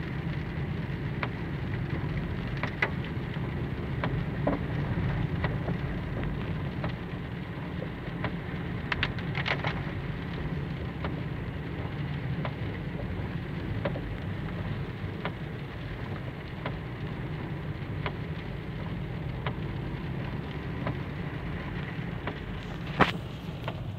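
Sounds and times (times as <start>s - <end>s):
car engine and tyres on wet road: 0.0s - 23.9s
light ticks: 0.0s - 23.9s.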